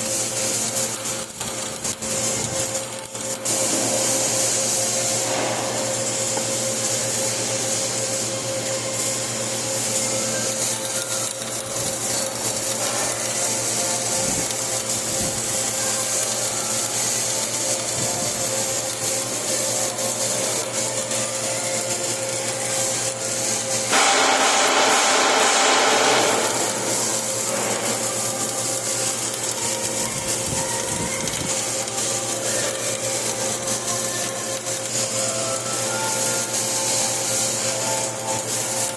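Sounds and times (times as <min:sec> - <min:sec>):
low electrical hum: 0:00.0 - 0:38.9
welding arc crackling: 0:00.0 - 0:38.9.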